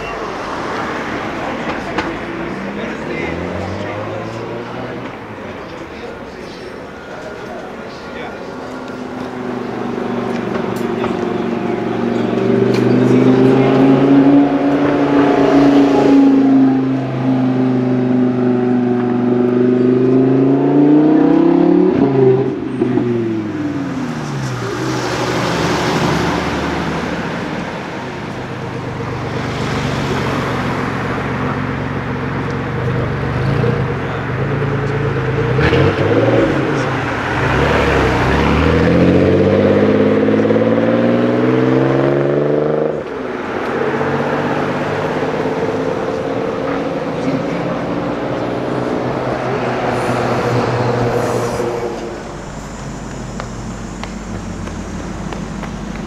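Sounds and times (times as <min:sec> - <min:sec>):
car engine passing by: 0:00.0 - 0:56.0
street traffic noise: 0:00.0 - 0:56.0
sports car accelerating: 0:00.2 - 0:56.0.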